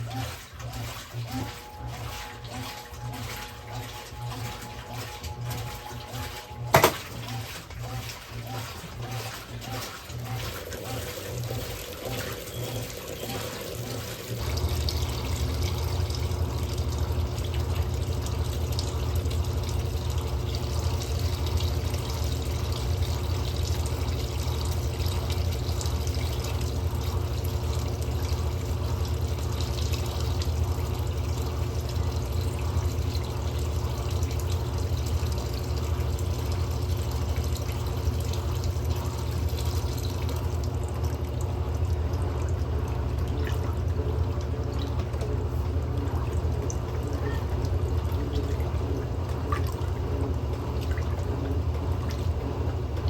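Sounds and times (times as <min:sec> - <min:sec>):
washing machine motor hum: 0:00.0 - 0:53.0
water rushing in washing machine: 0:00.0 - 0:53.0.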